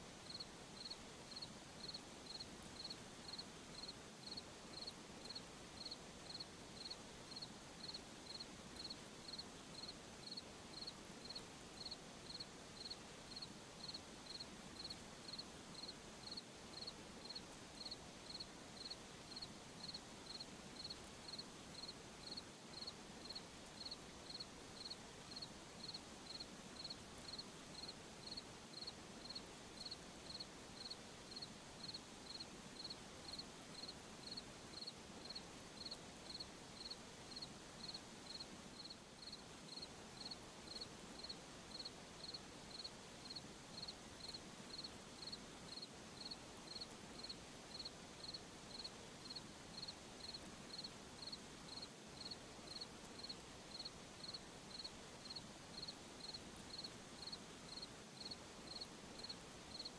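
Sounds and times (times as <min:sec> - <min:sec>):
faint night ambience hiss: 0:00.0 - 0:59.9
cricket chirping: 0:00.3 - 0:59.9.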